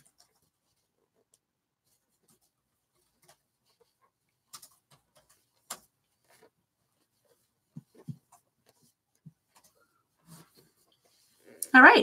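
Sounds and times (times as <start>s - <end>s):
crochet hook rustling yarn: 0.0s - 12.0s.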